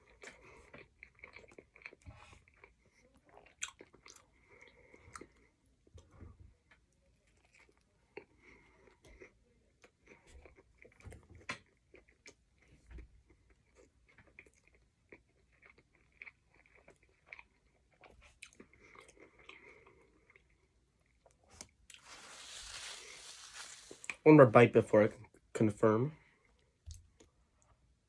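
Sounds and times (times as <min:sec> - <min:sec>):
person chewing crunchily: 0:00.0 - 0:05.6, 0:07.2 - 0:24.2.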